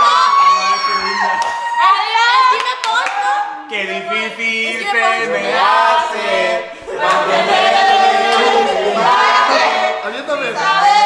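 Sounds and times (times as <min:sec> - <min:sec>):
group of young voices singing: 0:00.0 - 0:11.0.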